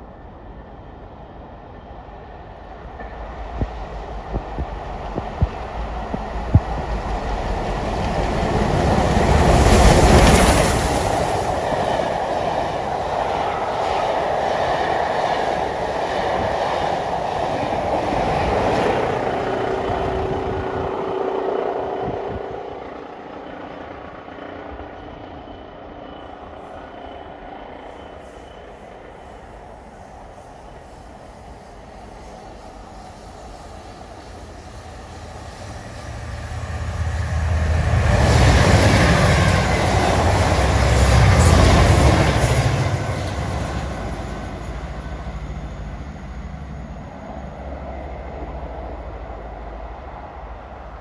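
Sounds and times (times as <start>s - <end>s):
steam train rumbling past: 1.4s - 51.0s.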